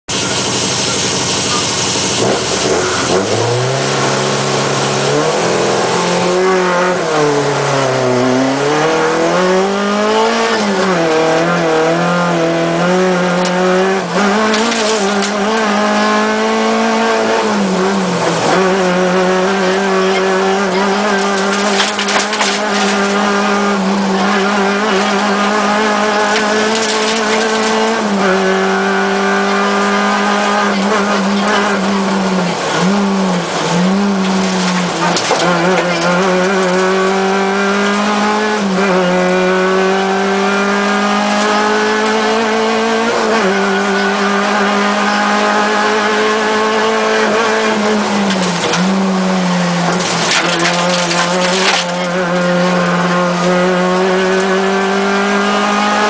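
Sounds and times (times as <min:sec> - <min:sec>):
car engine revving: 0:00.1 - 0:56.0.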